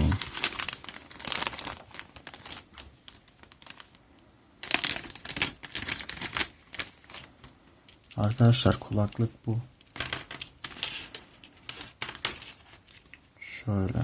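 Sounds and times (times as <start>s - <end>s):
plastic packaging crinkling: 0.0s - 4.0s, 4.6s - 13.3s.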